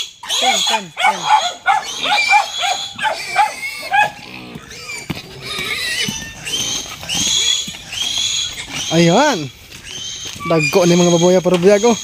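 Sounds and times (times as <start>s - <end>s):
piglets squealing: 0.0s - 12.0s.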